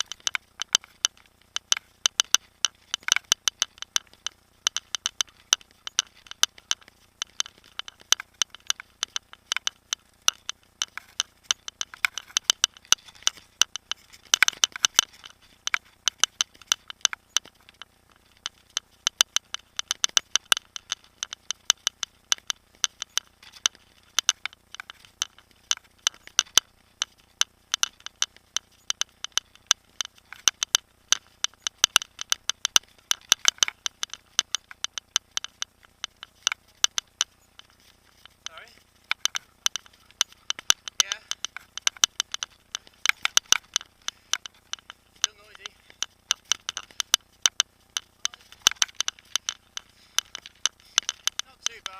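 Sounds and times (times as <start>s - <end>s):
bike rattling over rough trail: 0.0s - 51.9s.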